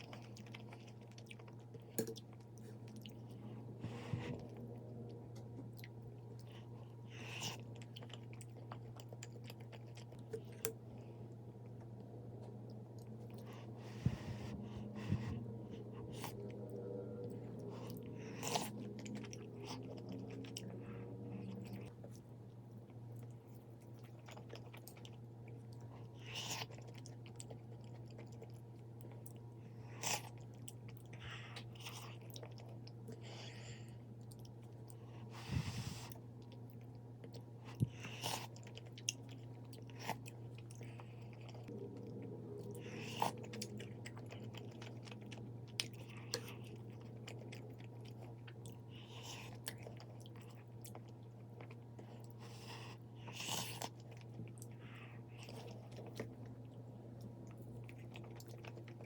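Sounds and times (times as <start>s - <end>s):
person chewing food: 0.0s - 59.0s
steady low hum: 0.0s - 59.0s.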